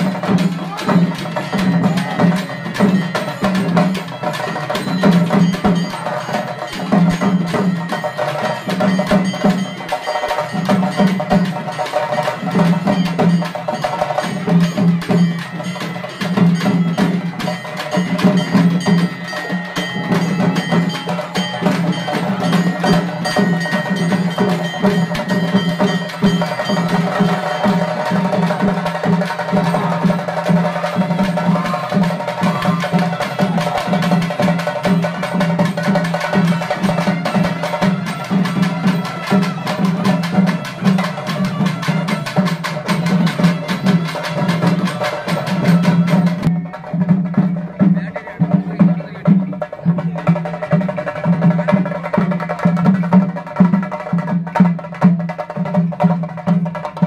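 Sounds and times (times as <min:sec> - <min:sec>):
bells ringing: 0:00.0 - 0:56.0
drum ensemble playing fast beat: 0:00.0 - 0:57.0.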